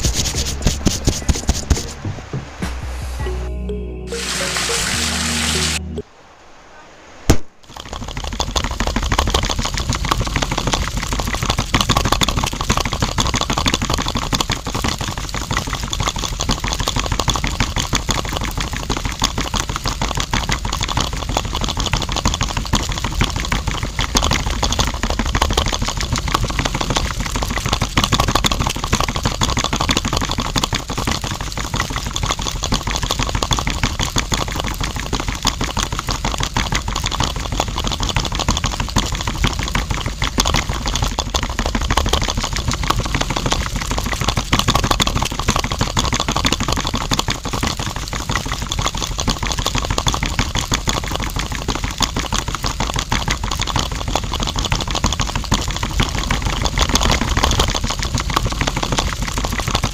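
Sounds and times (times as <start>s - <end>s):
fast mechanical rattle: 0.0s - 1.7s, 7.6s - 59.9s.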